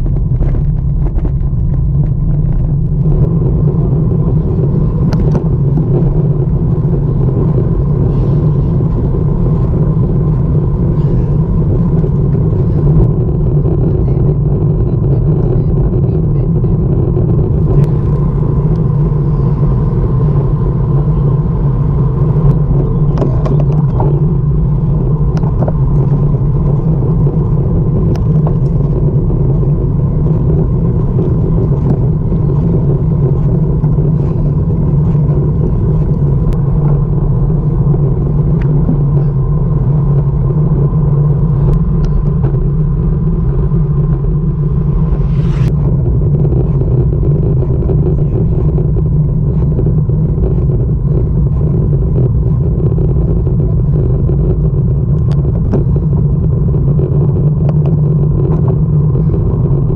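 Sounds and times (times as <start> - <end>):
bicycle tyre noise on asphalt: 0.0 - 59.9
wind rushing over microphone: 0.0 - 59.9.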